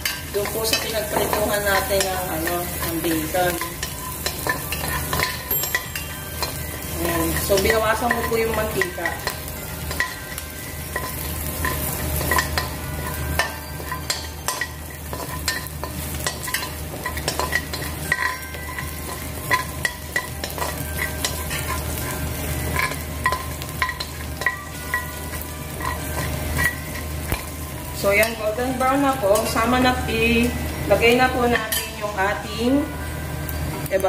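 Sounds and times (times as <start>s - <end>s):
metal spoon scraping pan: 0.0s - 30.0s
garlic sizzling in frying pan: 0.0s - 34.0s.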